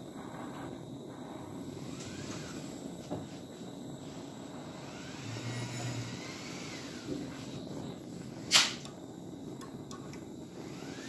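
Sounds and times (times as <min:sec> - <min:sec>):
gas torch flame rushing: 0:00.0 - 0:11.0
sharp hiss: 0:00.0 - 0:11.0.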